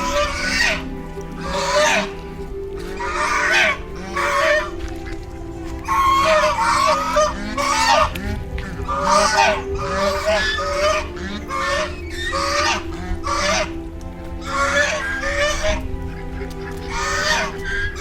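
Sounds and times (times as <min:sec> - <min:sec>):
background music: 0:00.0 - 0:18.0
waterfowl honking: 0:00.0 - 0:18.0.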